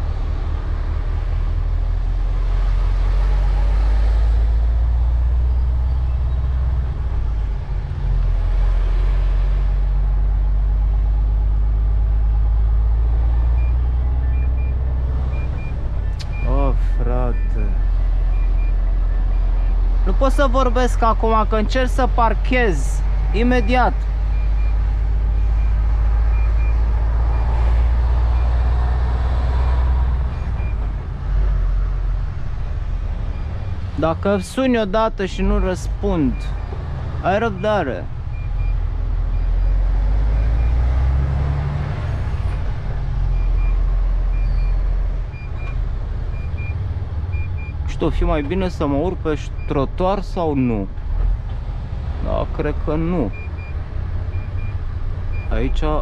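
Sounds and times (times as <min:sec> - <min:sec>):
truck engine rumble from cab: 0:00.0 - 0:56.0.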